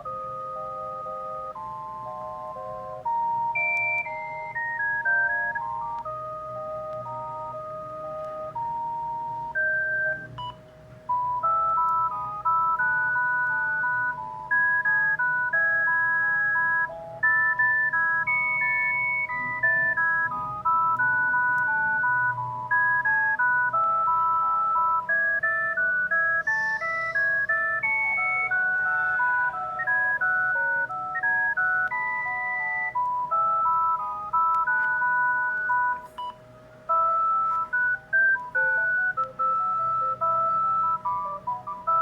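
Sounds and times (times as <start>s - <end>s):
phone ringtone melody: 0.0s - 42.0s.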